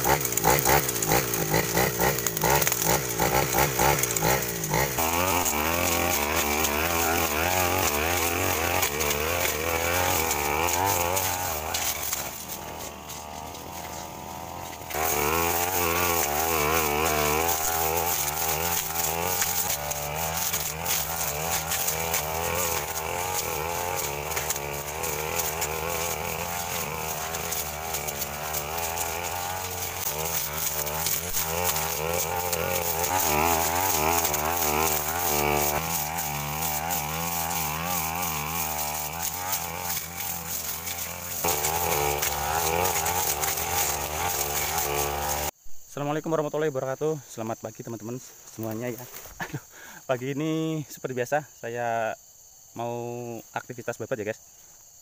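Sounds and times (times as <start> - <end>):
brush cutter engine revving: 0.0 - 45.6.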